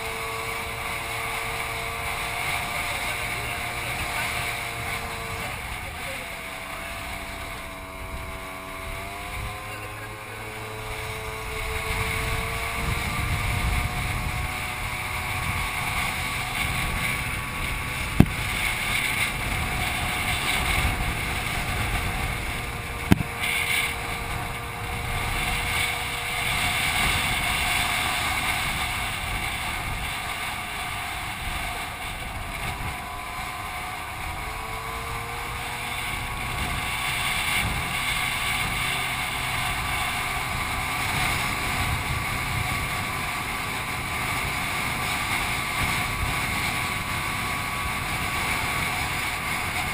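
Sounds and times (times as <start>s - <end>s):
scooter engine running: 0.0s - 49.9s
wind buffeting microphone: 0.0s - 49.9s.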